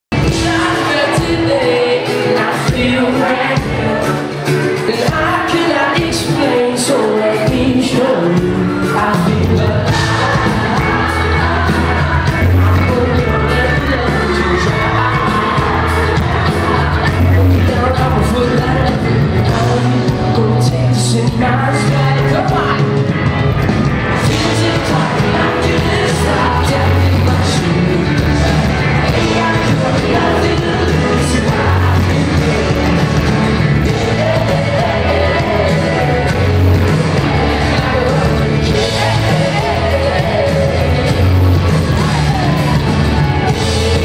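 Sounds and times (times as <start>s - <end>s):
crowd noise: 0.0s - 44.0s
pop-rock band playing live: 0.1s - 44.0s
heavy bass: 7.5s - 44.0s.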